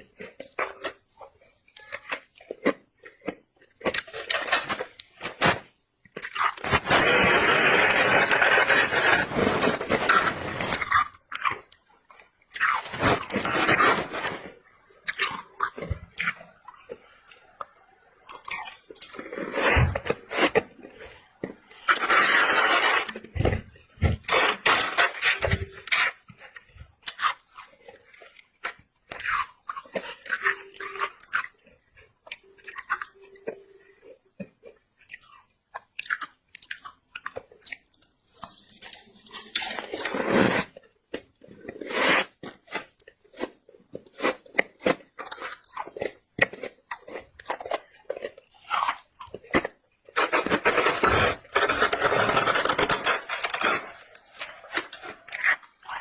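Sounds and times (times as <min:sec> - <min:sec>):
crunching and chewing frost: 0:00.0 - 0:56.0.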